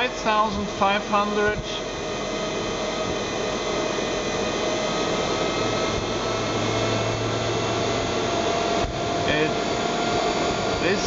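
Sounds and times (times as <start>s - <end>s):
electric motor whirring hum: 0.0s - 11.0s.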